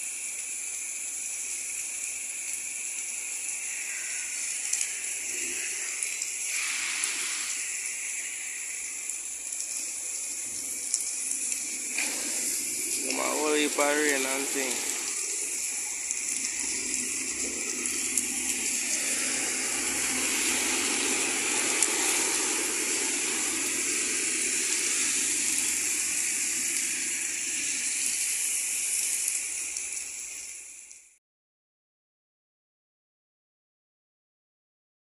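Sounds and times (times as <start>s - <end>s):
heavy rain on pavement: 0.0s - 31.2s.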